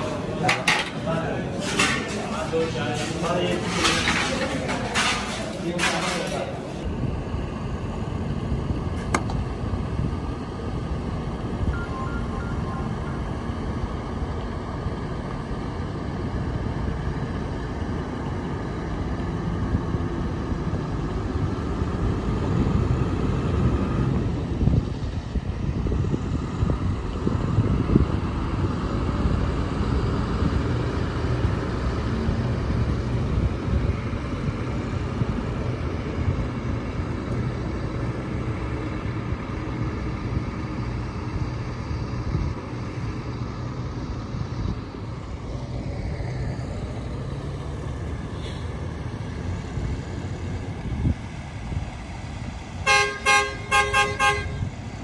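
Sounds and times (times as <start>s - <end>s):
bus engine humming: 0.0s - 55.0s.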